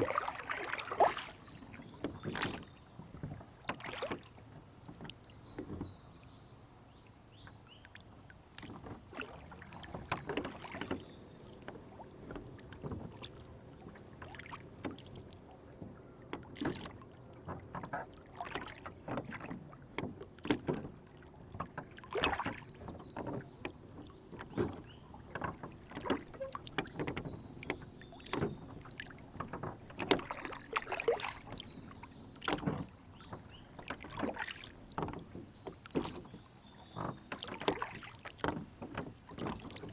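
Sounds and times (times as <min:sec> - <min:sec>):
oars knocking and splashing: 0:00.0 - 0:06.4, 0:08.5 - 0:39.9
water slapping against hull: 0:00.0 - 0:06.4, 0:07.3 - 0:39.9
water lapping: 0:00.0 - 0:39.9.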